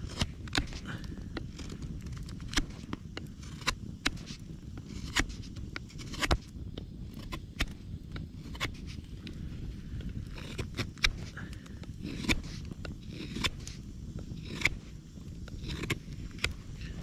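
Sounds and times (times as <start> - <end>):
knife carving wood: 0.0 - 17.0.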